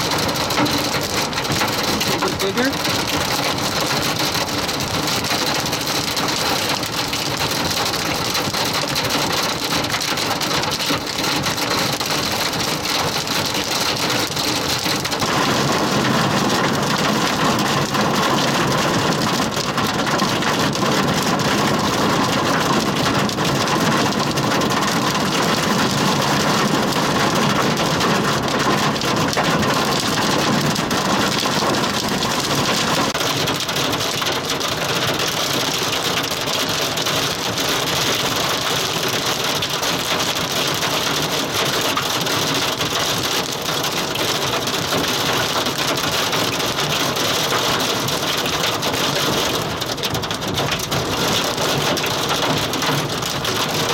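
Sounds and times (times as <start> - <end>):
heavy rain pelting down: 0.0 - 53.9.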